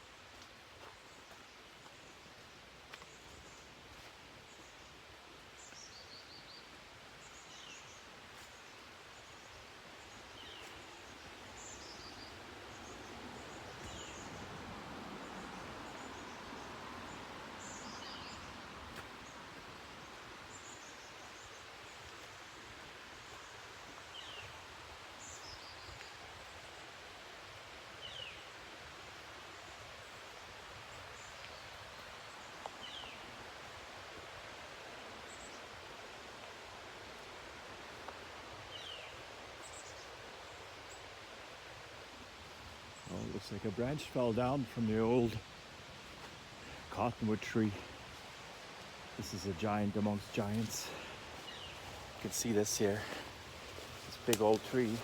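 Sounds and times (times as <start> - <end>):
soft woodland hiss: 0.0 - 55.0.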